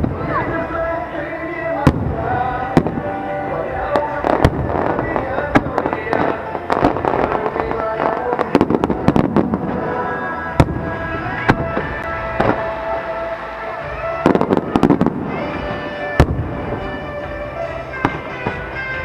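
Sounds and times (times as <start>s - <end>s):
fireworks bangs and crackles: 0.0s - 19.0s
music: 0.0s - 19.0s.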